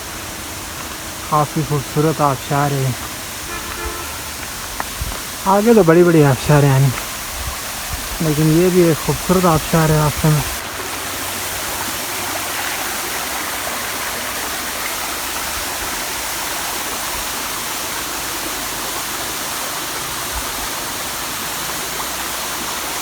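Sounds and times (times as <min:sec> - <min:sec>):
waterfall rushing and splashing: 0:00.0 - 0:23.0.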